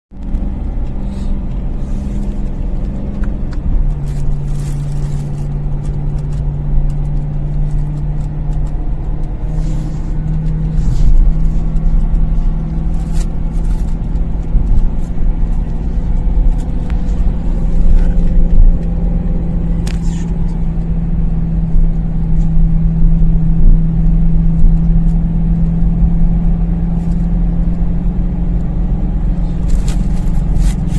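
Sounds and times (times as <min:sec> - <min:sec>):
car engine droning: 0:00.1 - 0:30.9.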